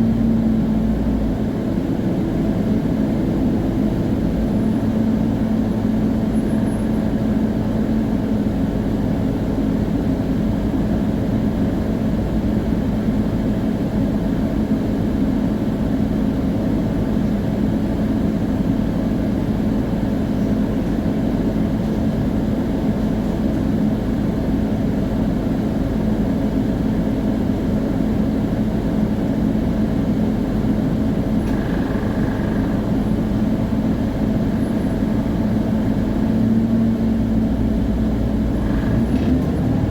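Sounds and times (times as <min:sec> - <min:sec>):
bus diesel engine hum: 0:00.0 - 0:39.9.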